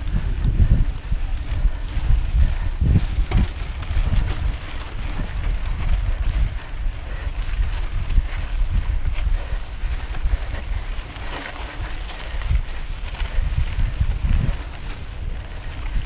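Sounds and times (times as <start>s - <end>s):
bike knocking and rattling: 0.0s - 16.0s
knobby tyres rumbling on dirt: 0.0s - 16.0s
wind buffeting microphone: 0.0s - 16.0s.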